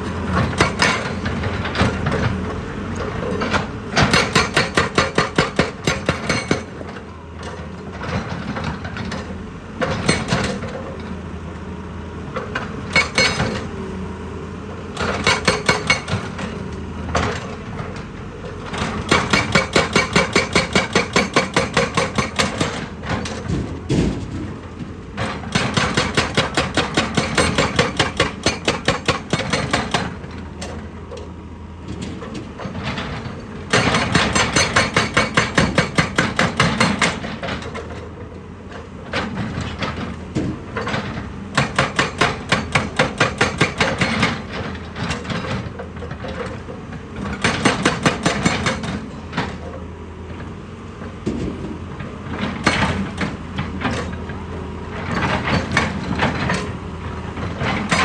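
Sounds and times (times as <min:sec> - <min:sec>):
excavator engine drone: 0:00.0 - 0:58.0
hydraulic breaker hammering rock: 0:00.2 - 0:11.0, 0:12.3 - 0:13.8, 0:14.9 - 0:31.0, 0:32.0 - 0:50.4, 0:51.0 - 0:58.0.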